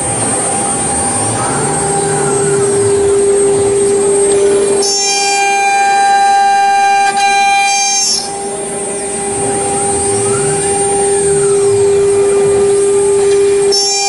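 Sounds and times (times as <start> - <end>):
hissing cutting noise: 0.0 - 14.0
router spindle whine: 0.0 - 14.0.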